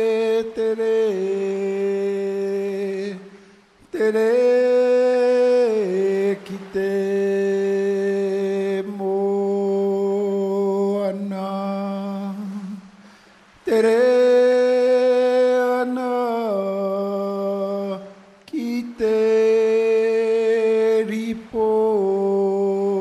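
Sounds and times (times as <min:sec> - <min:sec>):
chant-like held tones music: 0:00.0 - 0:13.0, 0:13.6 - 0:23.0.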